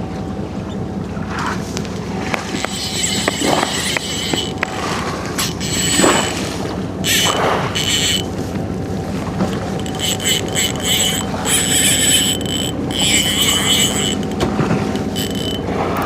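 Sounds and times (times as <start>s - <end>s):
boat engine running: 0.0s - 16.0s
water washing against hull: 0.4s - 16.0s.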